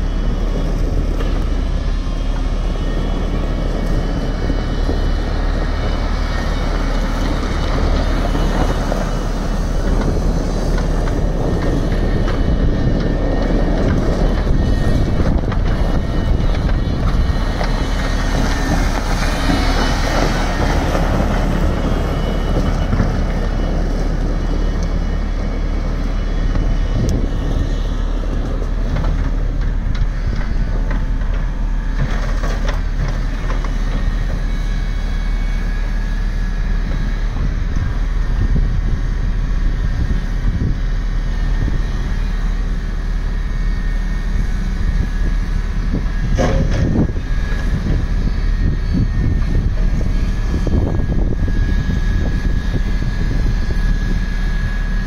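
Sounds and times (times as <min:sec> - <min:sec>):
excavator diesel engine running: 0:00.0 - 0:55.0
wheels on gravel: 0:00.0 - 0:55.0.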